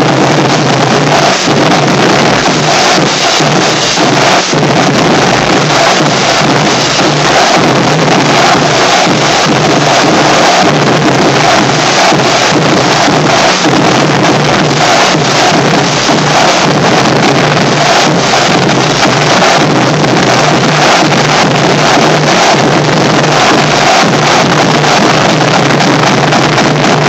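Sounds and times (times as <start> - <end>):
marching snare drums: 0.0 - 27.0.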